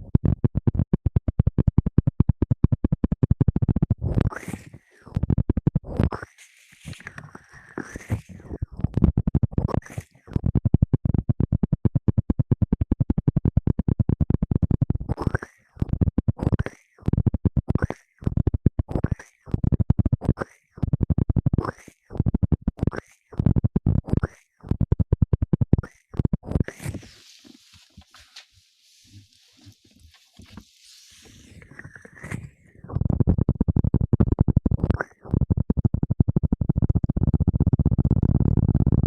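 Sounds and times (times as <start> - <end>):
rapid scratching on microphone: 0.0 - 39.0.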